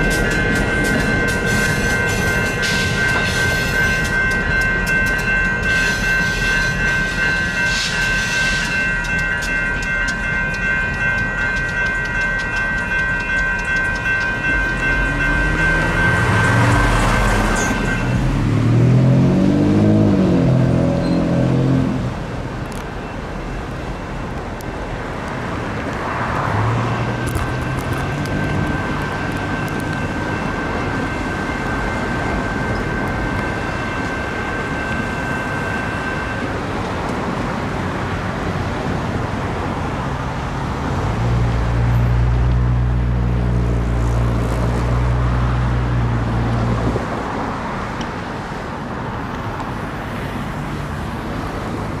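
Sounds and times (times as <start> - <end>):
diesel locomotive drone: 0.0 - 52.0
road traffic passing: 0.0 - 52.0.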